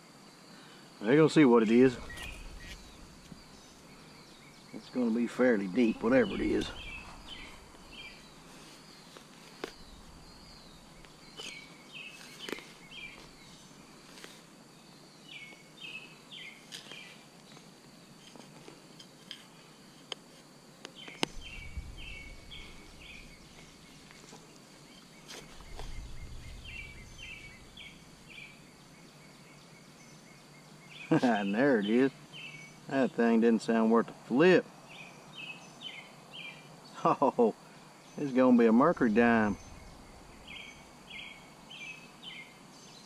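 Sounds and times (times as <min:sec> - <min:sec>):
bird singing: 0:00.0 - 0:18.3, 0:20.9 - 0:43.0.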